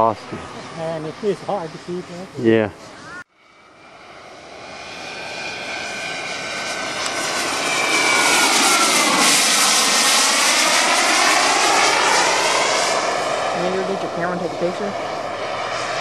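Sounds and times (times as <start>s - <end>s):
model jet engine whine: 0.0s - 16.0s.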